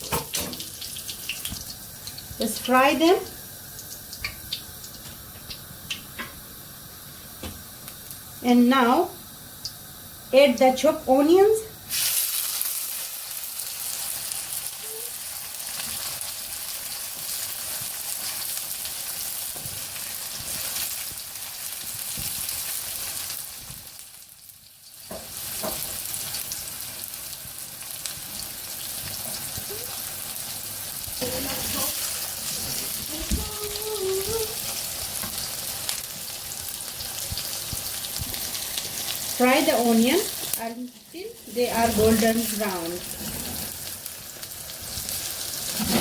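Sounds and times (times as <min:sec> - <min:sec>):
onions sizzling in oil: 0:00.0 - 0:46.0.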